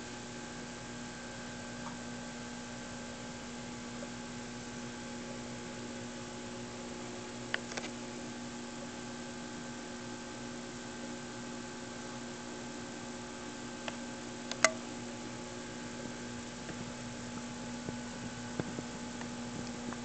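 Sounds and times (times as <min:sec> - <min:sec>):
aquarium air pump humming: 0:00.0 - 0:20.0.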